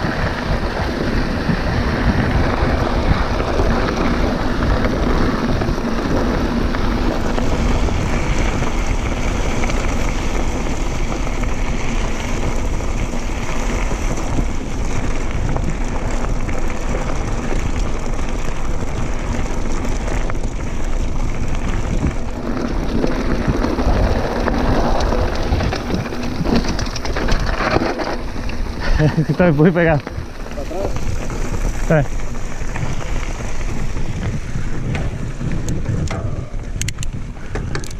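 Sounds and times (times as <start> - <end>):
bike rattling over dirt trail: 0.0 - 37.9
wind buffeting microphone: 0.0 - 37.9.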